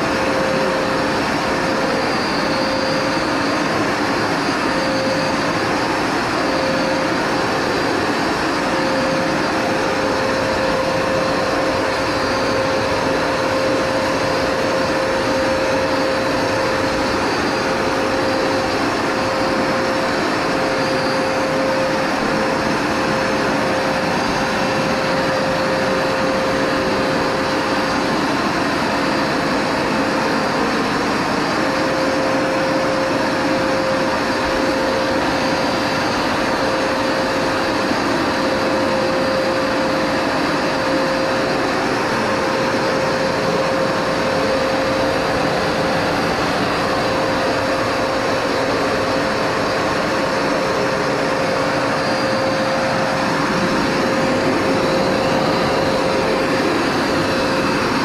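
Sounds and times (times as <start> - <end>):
carpet washer motor whining: 0.0 - 58.0.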